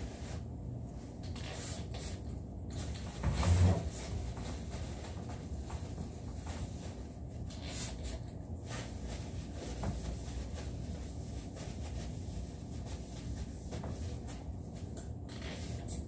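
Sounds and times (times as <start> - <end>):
cloth wiping wooden chair: 0.0 - 0.5, 1.4 - 15.9.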